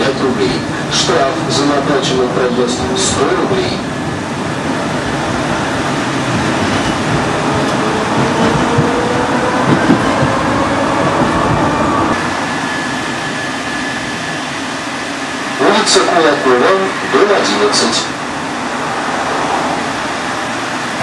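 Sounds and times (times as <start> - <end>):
tram wheels rumbling on track: 0.0 - 21.0.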